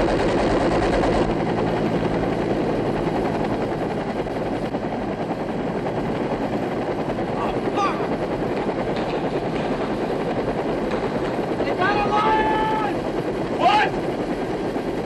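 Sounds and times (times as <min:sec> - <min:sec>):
helicopter flying: 0:00.0 - 0:15.0.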